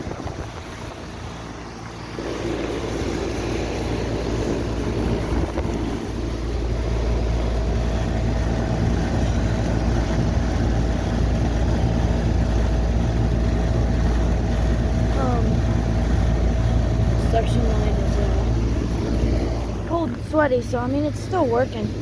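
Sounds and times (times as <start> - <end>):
compressor hum: 0.0 - 22.0
faint steady whine: 0.0 - 22.0
fan air rushing: 0.0 - 22.0.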